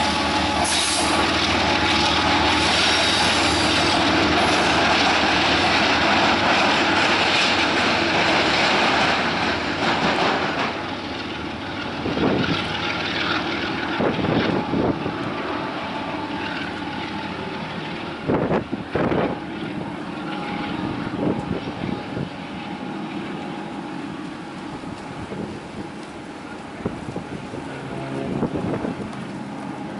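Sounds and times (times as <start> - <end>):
diesel locomotive engine droning: 0.0 - 29.9
freight train wheels rumbling: 0.0 - 29.9.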